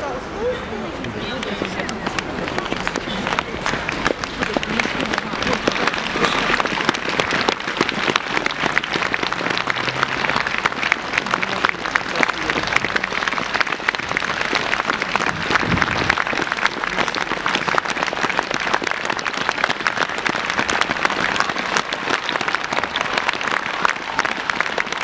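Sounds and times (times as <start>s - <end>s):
large crowd clapping: 1.0s - 25.0s.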